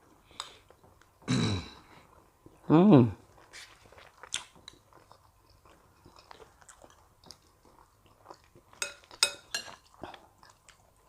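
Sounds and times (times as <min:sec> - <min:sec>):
person chewing with mouth smacks: 0:00.3 - 0:11.0.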